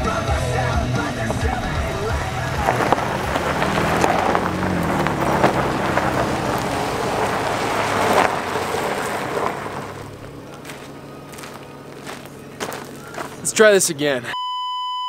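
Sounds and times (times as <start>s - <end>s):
truck engine running low: 0.0s - 13.6s
tyres crunching on gravel: 0.0s - 14.2s.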